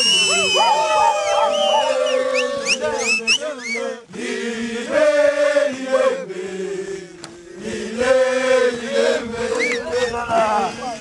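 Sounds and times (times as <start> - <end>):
men chanting a song: 0.2 - 11.0.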